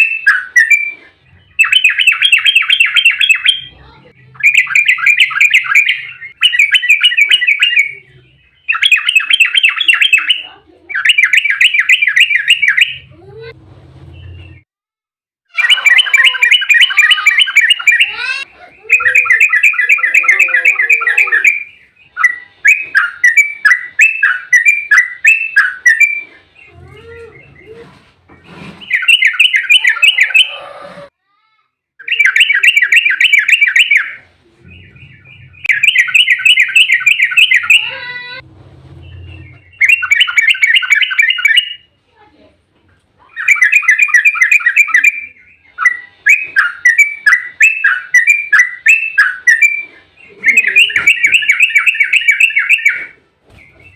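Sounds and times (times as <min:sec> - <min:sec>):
bulbul singing rattling song: 0:00.0 - 0:13.0, 0:15.6 - 0:27.6, 0:28.8 - 0:30.5, 0:32.0 - 0:38.0, 0:39.0 - 0:41.9, 0:43.3 - 0:53.9.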